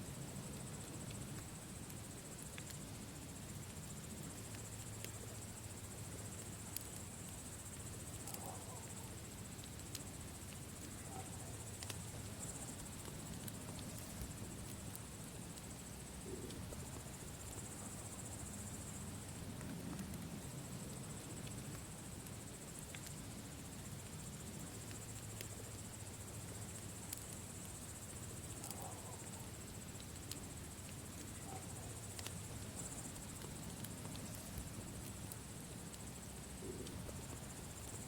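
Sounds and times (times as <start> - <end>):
crickets trilling: 0.0 - 38.0
campfire crackling and popping: 0.1 - 38.0.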